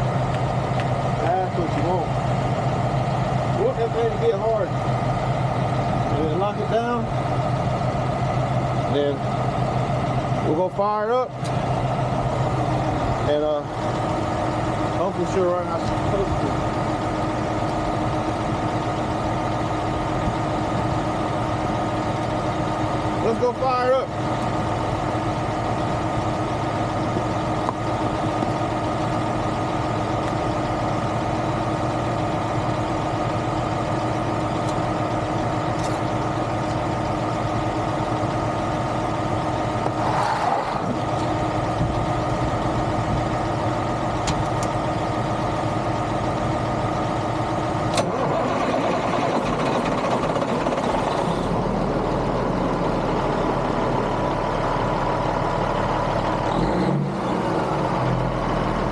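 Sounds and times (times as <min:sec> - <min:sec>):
truck diesel engine idling: 0:00.0 - 0:58.9.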